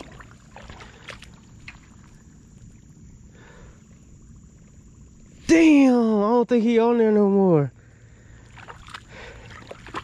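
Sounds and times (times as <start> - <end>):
low steady rumble: 0.0 - 9.8.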